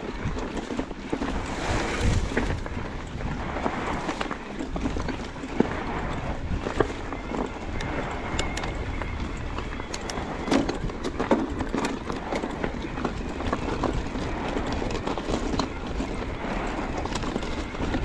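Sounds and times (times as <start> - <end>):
bike knocking and rattling: 0.0 - 18.0
wind on microphone: 0.0 - 18.0.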